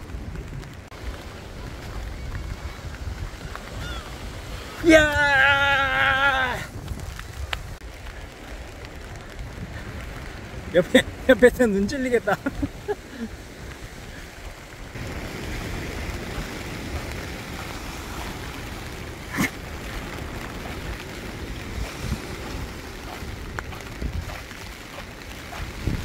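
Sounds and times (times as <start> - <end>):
surf rushing: 0.0 - 26.0
wind buffeting microphone: 0.0 - 26.0.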